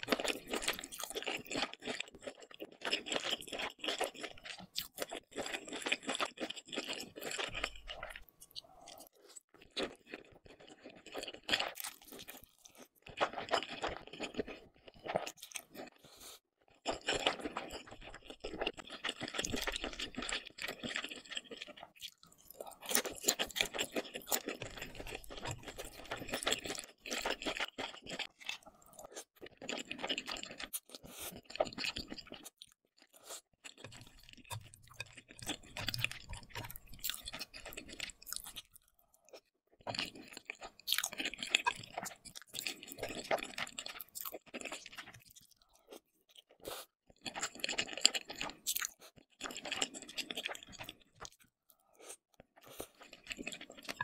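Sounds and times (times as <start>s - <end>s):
wet crackling chewing: 0.0s - 54.0s.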